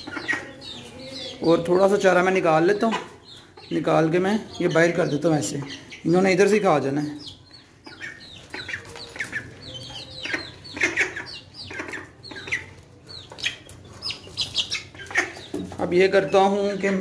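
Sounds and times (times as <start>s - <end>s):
young chickens clucking and peeping: 0.0s - 17.0s.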